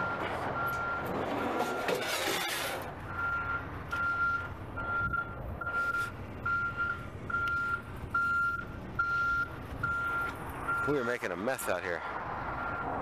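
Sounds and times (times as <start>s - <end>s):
truck reversing alarm beeping: 0.0s - 11.3s, 12.5s - 13.0s.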